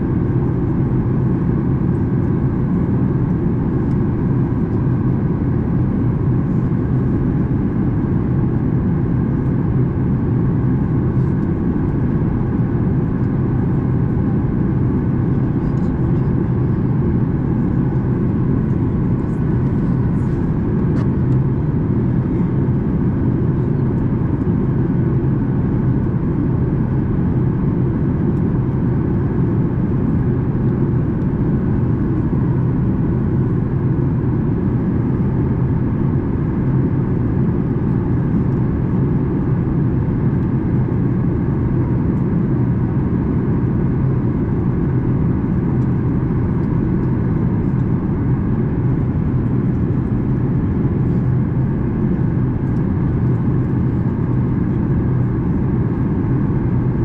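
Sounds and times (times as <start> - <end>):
airflow rushing in aircraft cabin: 0.0 - 57.0
jet engines droning: 0.0 - 57.0
low steady hum: 0.0 - 57.0.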